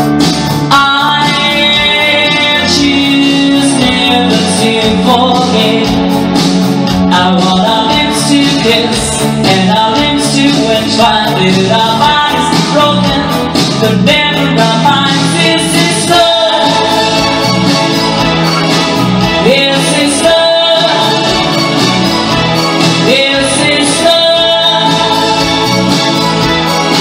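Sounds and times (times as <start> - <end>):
guitar music with steady beat: 0.0 - 27.0
person singing into microphone: 0.0 - 27.0.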